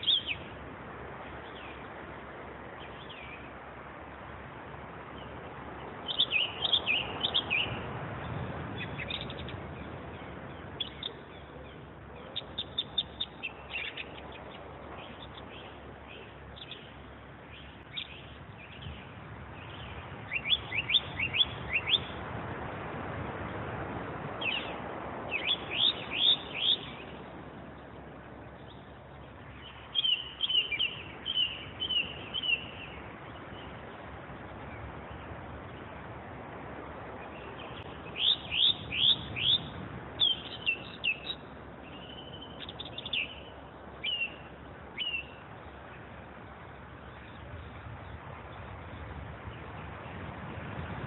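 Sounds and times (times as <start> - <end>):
songbird singing: 0.0 - 51.0
steady low rush: 0.0 - 51.0.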